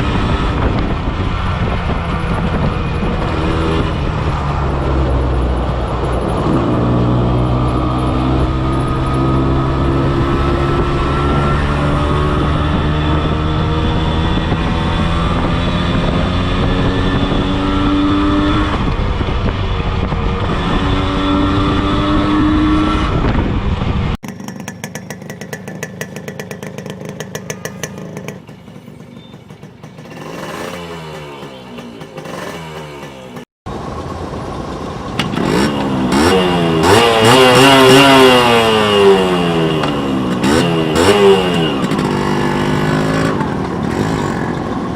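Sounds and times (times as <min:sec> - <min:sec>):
engine revving: 0:00.0 - 0:24.6, 0:30.0 - 0:33.5, 0:35.2 - 0:44.9
motorcycle engine running: 0:00.0 - 0:44.9.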